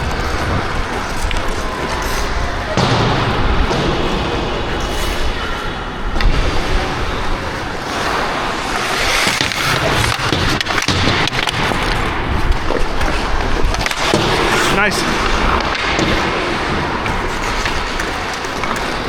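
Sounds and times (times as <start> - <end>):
skate blades scraping ice: 0.0 - 2.8, 3.8 - 19.0.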